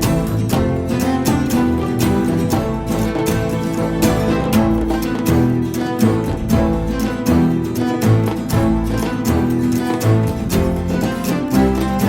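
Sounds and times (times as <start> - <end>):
plucked guitar: 0.0 - 12.0
sustained bass notes: 0.0 - 12.0.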